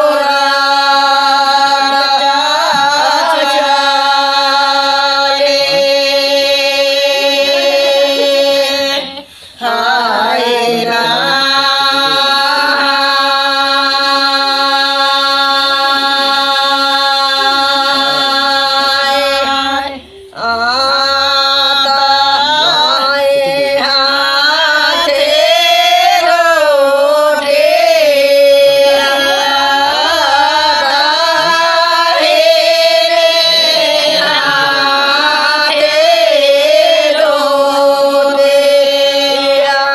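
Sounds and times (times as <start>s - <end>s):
women singing unaccompanied: 0.0s - 39.9s.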